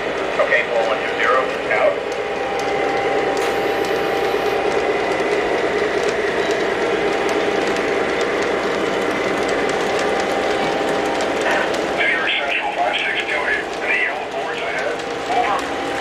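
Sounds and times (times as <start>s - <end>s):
model train motor hum: 0.0s - 16.0s
wheels clicking on rails: 0.0s - 16.0s.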